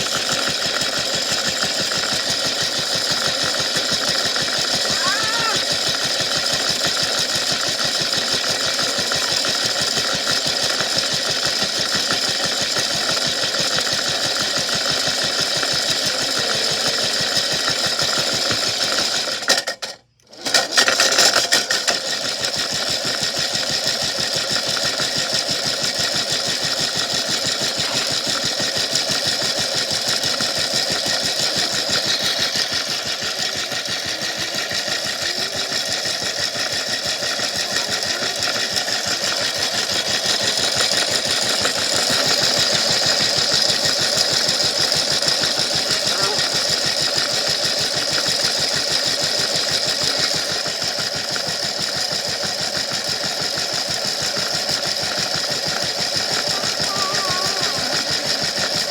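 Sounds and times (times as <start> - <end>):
toy washing machine rattling: 0.0 - 58.9.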